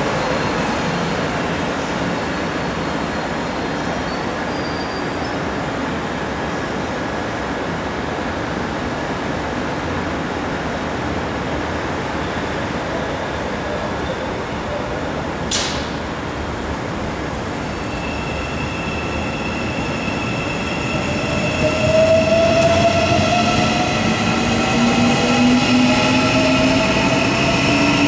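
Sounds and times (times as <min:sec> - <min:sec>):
electric trains rumbling: 0:00.0 - 0:28.0.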